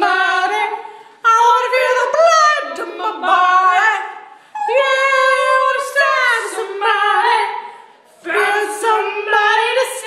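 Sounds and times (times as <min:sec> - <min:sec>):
woman singing unaccompanied: 0:00.0 - 0:07.6, 0:08.2 - 0:10.0.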